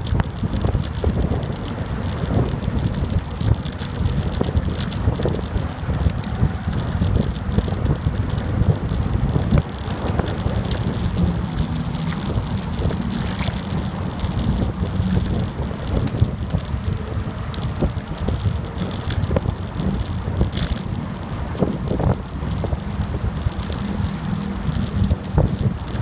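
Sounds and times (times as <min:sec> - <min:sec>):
bicycle tyre noise: 0:00.0 - 0:26.0
bike rattling: 0:00.0 - 0:26.0
wind buffeting microphone: 0:00.0 - 0:26.0.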